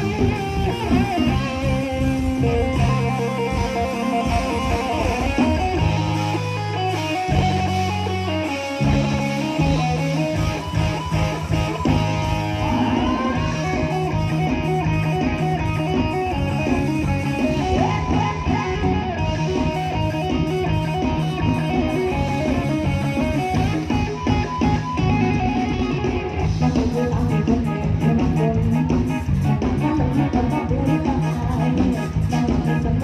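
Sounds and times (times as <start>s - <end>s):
drum kit beat: 0.0s - 33.0s
electric guitar lines: 0.0s - 33.0s.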